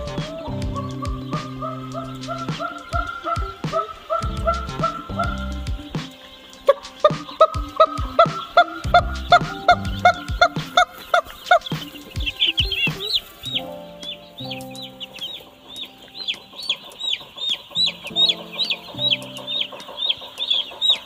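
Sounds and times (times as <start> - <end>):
background music low held notes: 0.0 - 21.0
chicks peeping: 0.0 - 21.0.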